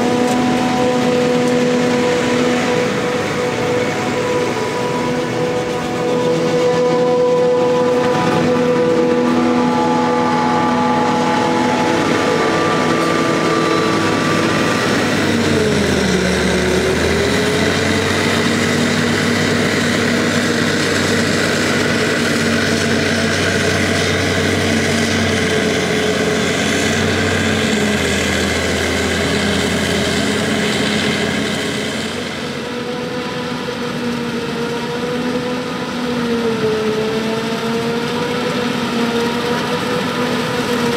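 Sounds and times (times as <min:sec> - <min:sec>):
deep engine rumble: 0:00.0 - 0:36.1
forage harvester mechanical whine: 0:00.0 - 0:40.9.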